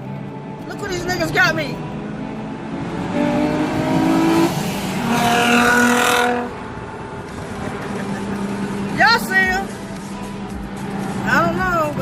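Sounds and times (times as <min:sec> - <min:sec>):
car engines revving by: 0:00.0 - 0:12.0.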